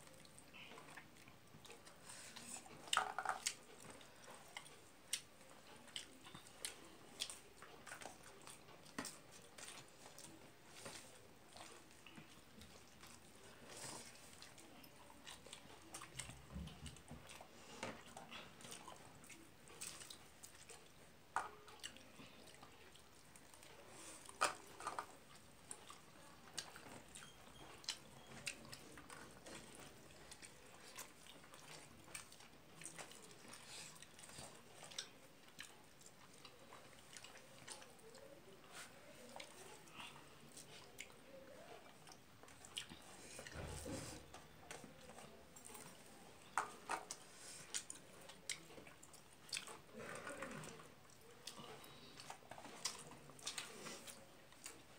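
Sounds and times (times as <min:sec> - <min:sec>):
person chewing and smacking: 0:00.0 - 0:54.9.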